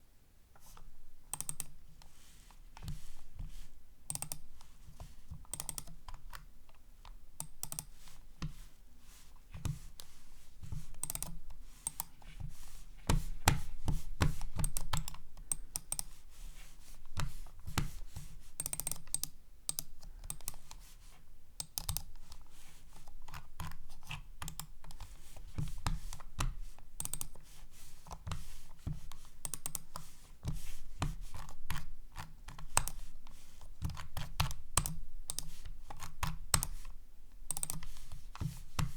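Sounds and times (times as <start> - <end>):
computer mouse clicking: 0.6 - 2.1, 2.7 - 3.5, 4.1 - 8.6, 10.7 - 12.5, 13.1 - 16.2, 17.1 - 20.8, 21.6 - 27.4, 28.1 - 38.9.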